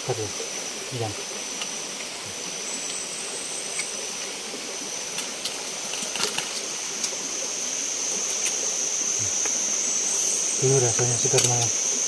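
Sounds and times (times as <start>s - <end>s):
even rushing hiss: 0.0s - 12.0s
insects buzzing: 0.0s - 12.0s.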